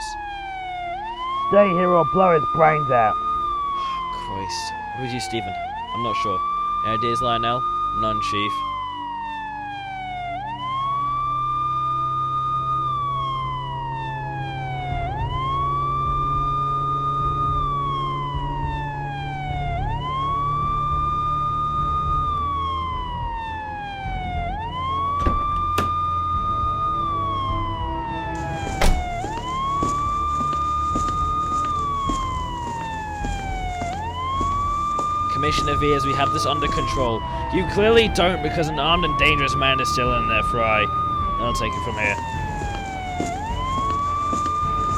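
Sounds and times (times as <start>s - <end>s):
police siren wailing: 0.0s - 44.9s.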